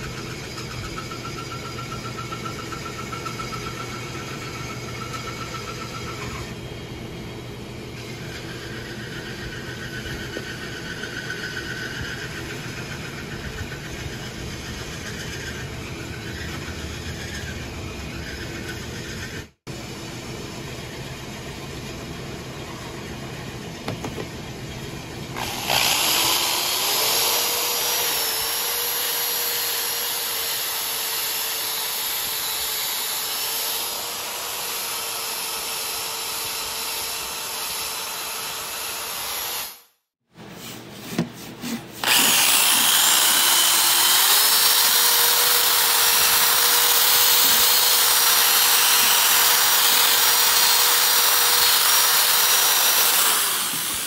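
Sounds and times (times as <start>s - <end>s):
rotary tool sanding metal: 0.0s - 6.6s, 8.0s - 19.6s, 25.4s - 39.8s, 41.7s - 54.0s.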